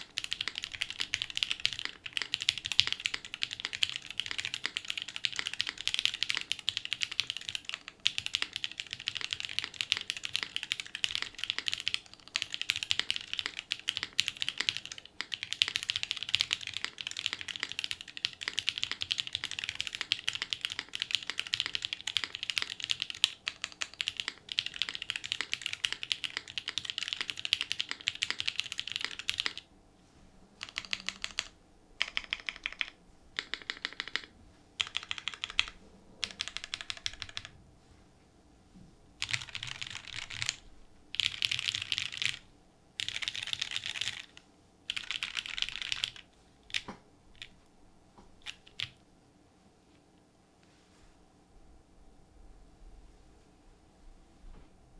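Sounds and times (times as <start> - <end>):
fast mechanical keyboard typing: 0.0 - 29.6, 30.6 - 37.5, 39.2 - 42.4, 43.0 - 47.6, 48.4 - 49.0.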